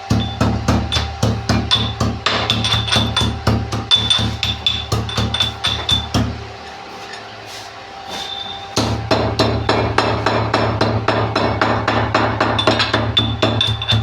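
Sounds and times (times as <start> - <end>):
pestle pounding in a mortar: 0.0 - 6.5, 8.8 - 14.0.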